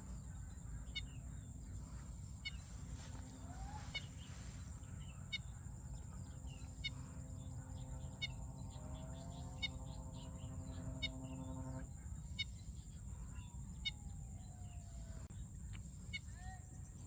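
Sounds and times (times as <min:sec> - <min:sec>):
birds chirping: 0:00.0 - 0:15.3
droning hum rising in pitch: 0:01.1 - 0:15.3.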